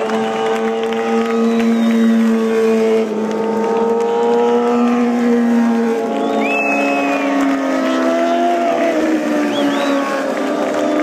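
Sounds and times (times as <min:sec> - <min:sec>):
motorcycle engines at high revs: 0:00.0 - 0:11.0.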